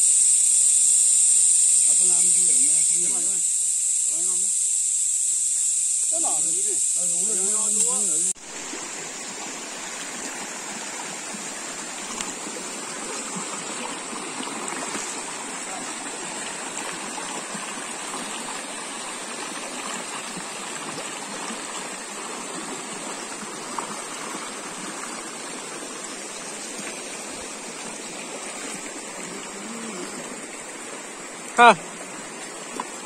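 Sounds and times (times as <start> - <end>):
stream rushing over stones: 6.1 - 33.0.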